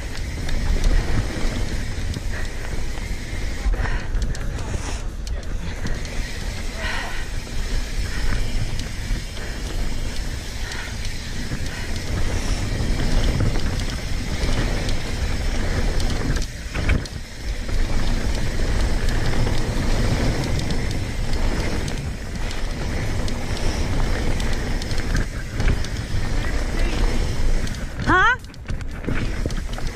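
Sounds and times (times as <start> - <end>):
bike rattles and clicks: 0.0 - 29.9
bike tyres rolling on dirt: 0.0 - 29.9.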